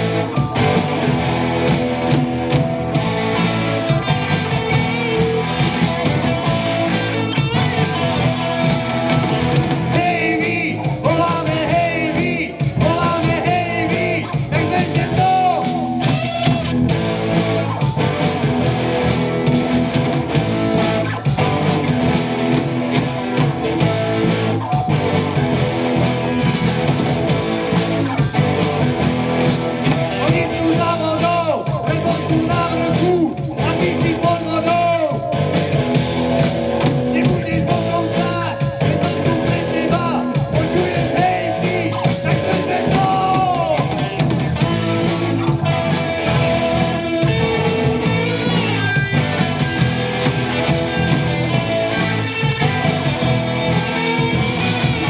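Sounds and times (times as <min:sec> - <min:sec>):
drum kit: 0:00.0 - 0:55.0
electric guitars: 0:00.0 - 0:55.0.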